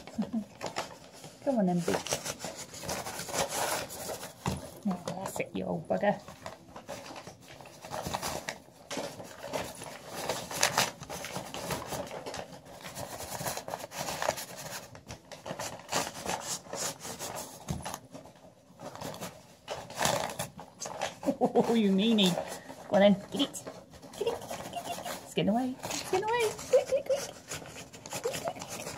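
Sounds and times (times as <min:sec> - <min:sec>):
paper rustling and crinkling: 0:00.0 - 0:28.9.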